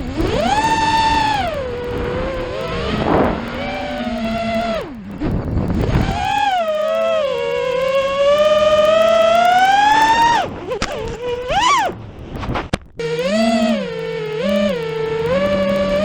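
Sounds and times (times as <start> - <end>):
quadcopter motors whining: 0.0 - 16.0
wind noise on microphone: 0.0 - 16.0.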